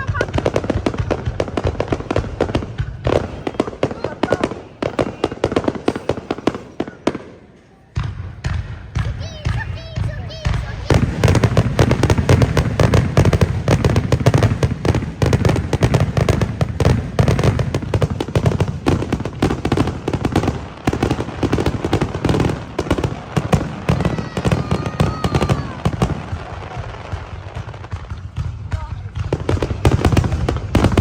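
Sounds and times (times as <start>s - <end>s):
fireworks bangs and crackles: 0.0s - 31.0s
low rumble of fireworks: 0.0s - 31.0s.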